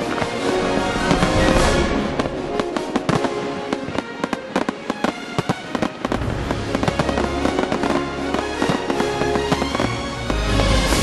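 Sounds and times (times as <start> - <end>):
fireworks bursting and crackling: 0.0 - 11.0
music playing: 0.0 - 11.0.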